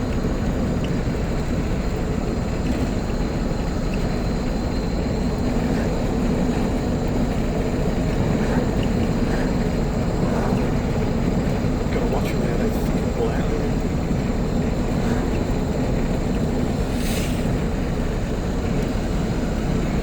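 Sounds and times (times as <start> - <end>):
car engine drone: 0.0 - 20.0
road noise: 0.0 - 20.0.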